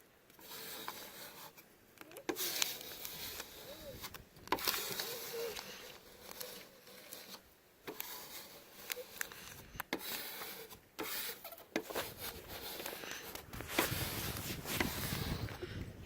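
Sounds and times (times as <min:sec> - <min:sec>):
tool scraping over vinyl decal: 0:00.4 - 0:01.7, 0:02.3 - 0:15.6.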